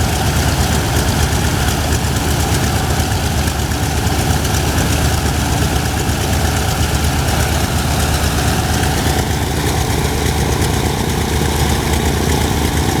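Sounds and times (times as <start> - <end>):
radial aircraft engine idling: 0.0 - 13.0.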